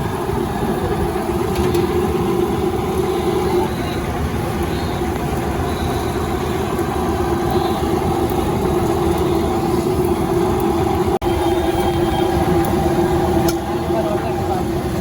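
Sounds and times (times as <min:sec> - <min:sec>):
loud mechanical drone: 0:00.0 - 0:15.0
street noise: 0:00.0 - 0:15.0.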